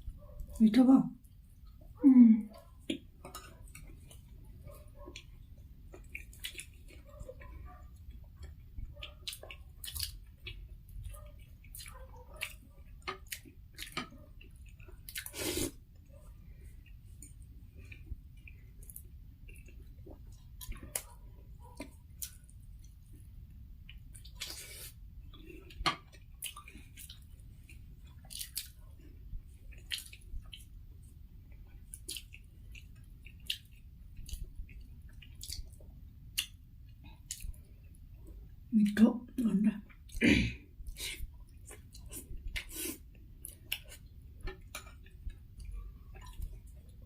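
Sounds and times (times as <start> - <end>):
people chewing: 1.2 - 39.0, 39.9 - 47.0.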